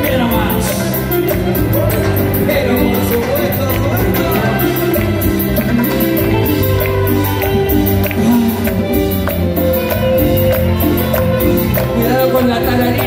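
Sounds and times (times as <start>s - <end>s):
live band music through speakers: 0.0s - 13.0s.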